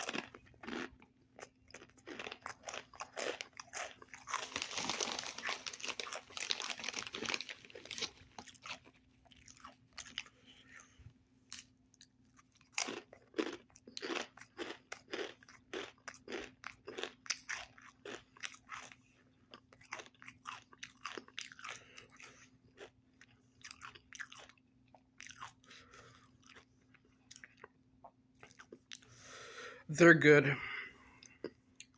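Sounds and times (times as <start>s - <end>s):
chewing crunchy chips: 0.0s - 29.2s, 31.1s - 31.9s.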